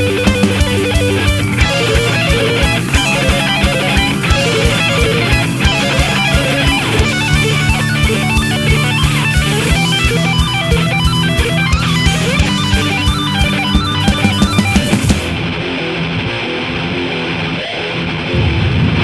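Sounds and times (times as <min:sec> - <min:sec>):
drum beat: 0:00.0 - 0:15.4
bass guitar: 0:00.0 - 0:19.0
distorted electric guitar: 0:00.0 - 0:19.0.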